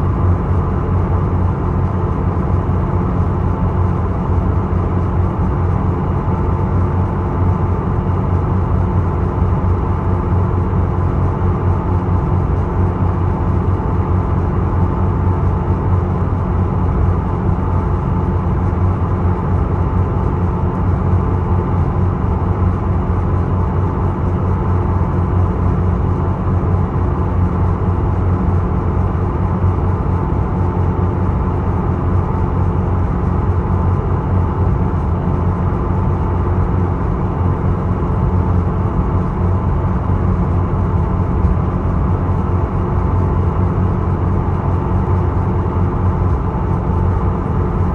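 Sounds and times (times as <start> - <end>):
ferry engine drone: 0.0 - 47.9.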